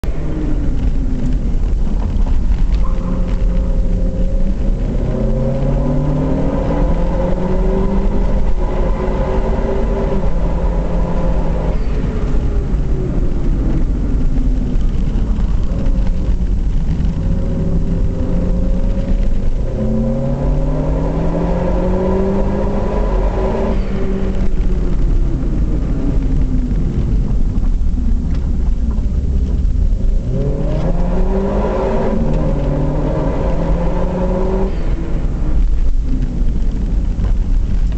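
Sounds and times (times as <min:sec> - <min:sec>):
car engine accelerating: 0:00.0 - 0:37.9
low rumble of road and wind: 0:00.0 - 0:37.9.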